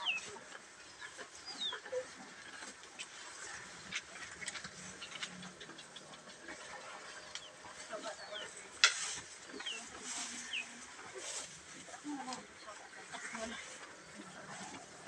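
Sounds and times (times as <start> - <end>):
cattle crunching grass: 0.1 - 15.0.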